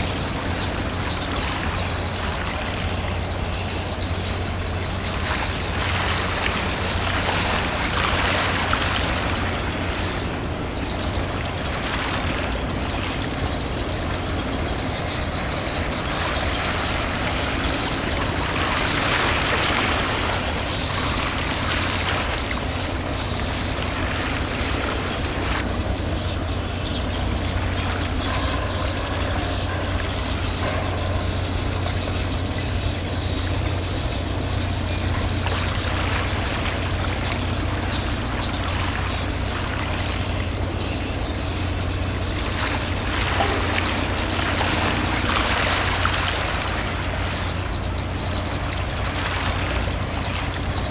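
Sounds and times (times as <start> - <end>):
rushing water noise: 0.0 - 50.9
ship engine drone: 0.0 - 50.9.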